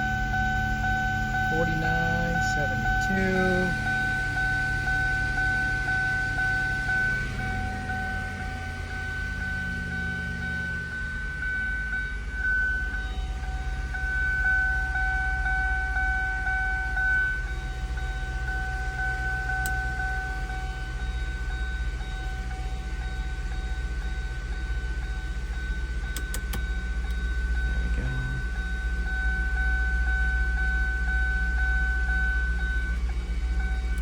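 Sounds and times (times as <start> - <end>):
car engine idling: 0.0 - 34.0
high-pitched engine whine: 0.0 - 34.0.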